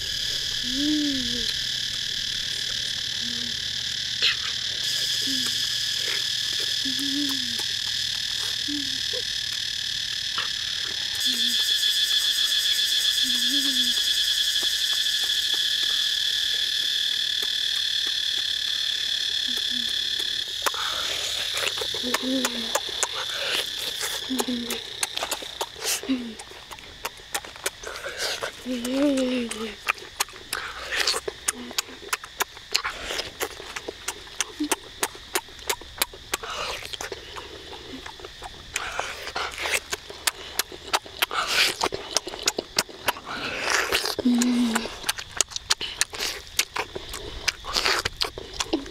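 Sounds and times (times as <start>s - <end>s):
buzzing chorus of forest wildlife: 0.0s - 48.9s
chewing crunches: 0.0s - 48.9s.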